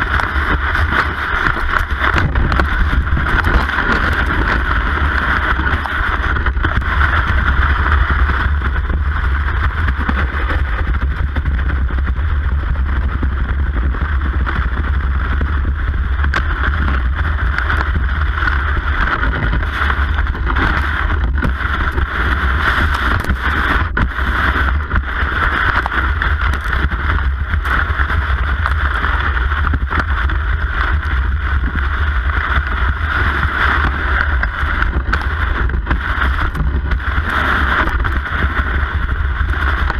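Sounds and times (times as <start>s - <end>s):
ski gliding over snow: 0.0s - 39.9s
wind buffeting microphone: 0.0s - 39.9s.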